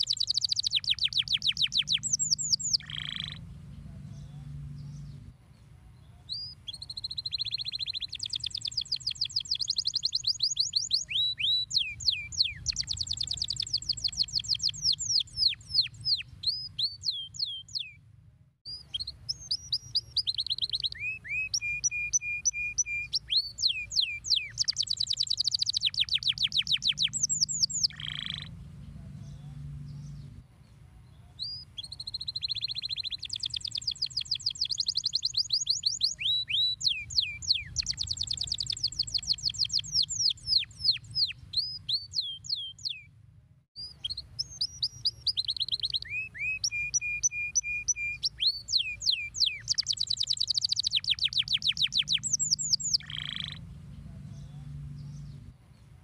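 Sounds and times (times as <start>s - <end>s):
canary singing: 0.0s - 5.3s, 6.0s - 18.0s, 18.7s - 30.4s, 31.1s - 43.1s, 43.8s - 55.5s.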